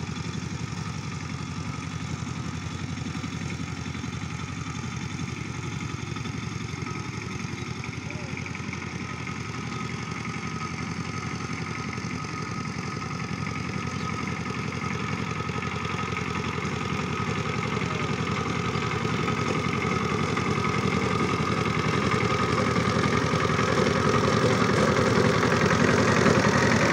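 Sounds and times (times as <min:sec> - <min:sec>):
diesel tiller engine running: 0:00.0 - 0:26.9.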